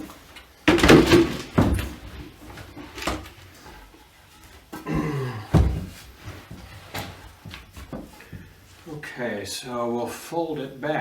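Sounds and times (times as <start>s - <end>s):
handling knocks and rustles: 0.0s - 9.1s.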